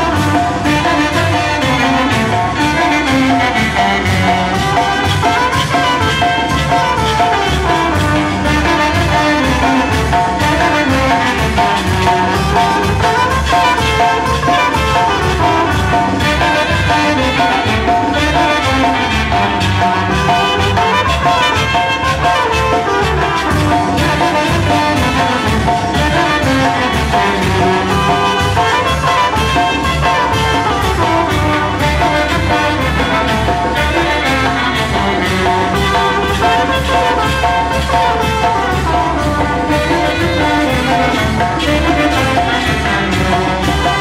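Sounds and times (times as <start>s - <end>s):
brass band music: 0.0s - 44.0s.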